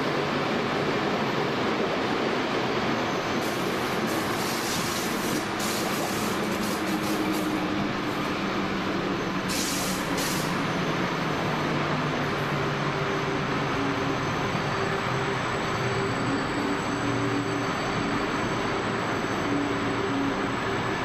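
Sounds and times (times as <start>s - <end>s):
train rumbling in tunnel: 0.0s - 21.0s.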